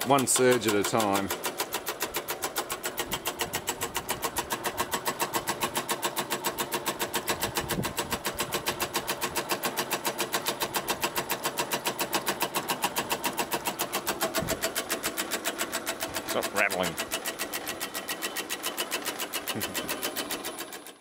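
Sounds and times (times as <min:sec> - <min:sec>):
water pump pulsing: 0:00.0 - 0:21.0.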